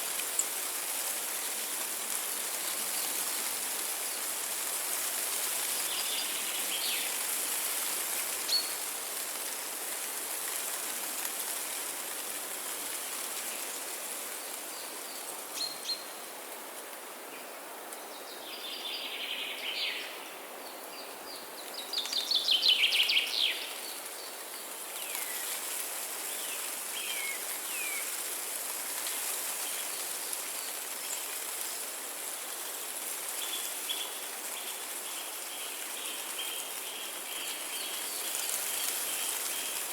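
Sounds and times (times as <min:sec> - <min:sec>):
running water hiss: 0:00.0 - 0:20.3, 0:20.9 - 0:39.9.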